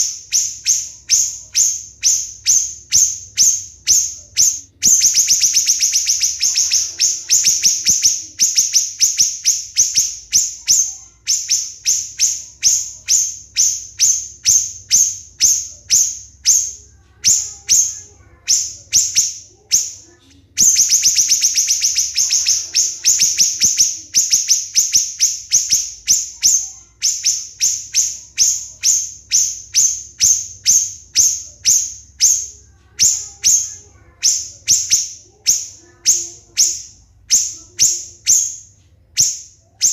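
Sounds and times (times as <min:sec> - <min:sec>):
bird singing high-pitched trill: 0:00.0 - 0:39.9.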